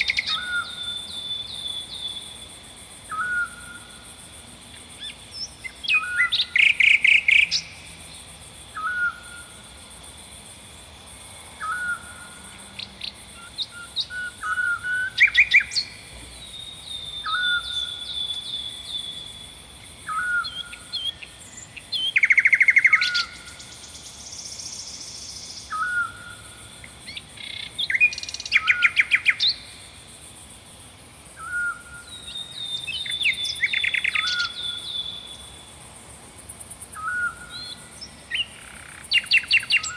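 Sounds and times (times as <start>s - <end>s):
songbirds singing: 0.0s - 9.8s, 11.0s - 30.3s, 31.2s - 35.9s, 36.8s - 39.9s
faint high hiss: 0.0s - 39.9s.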